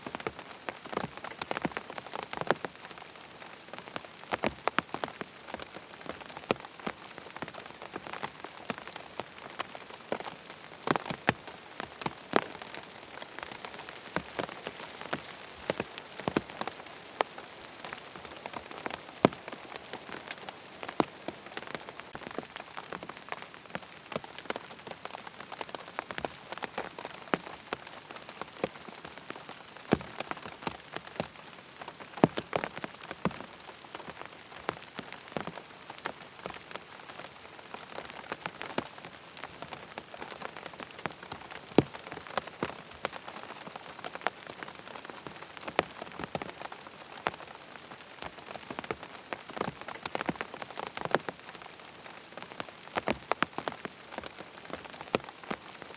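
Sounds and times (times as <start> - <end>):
rain falling: 0.0 - 55.9
raindrops tapping: 0.1 - 47.5, 48.2 - 55.9.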